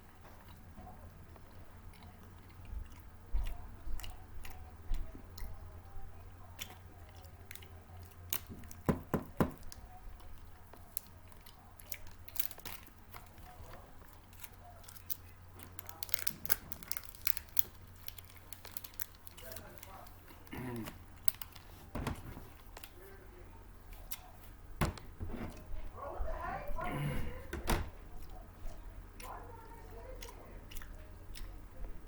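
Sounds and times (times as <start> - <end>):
chewing and crunching snack food: 0.0 - 21.9, 28.1 - 32.0
low steady hum: 0.0 - 32.0.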